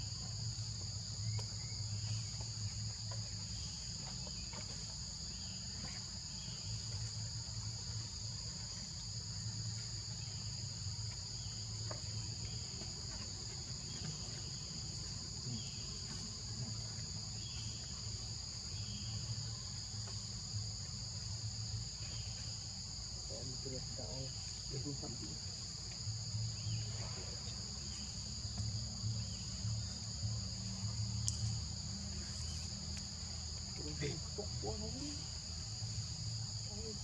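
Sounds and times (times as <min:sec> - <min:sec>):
insect chorus trilling: 0:00.0 - 0:37.0.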